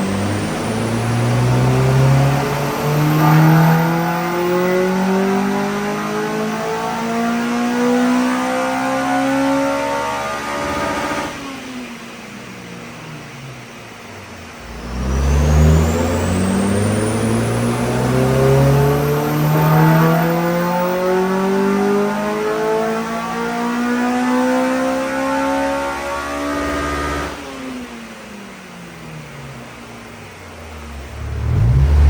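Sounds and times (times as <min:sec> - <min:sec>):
car engine revving on dyno: 0:00.0 - 0:12.0, 0:14.4 - 0:28.2, 0:29.0 - 0:32.0.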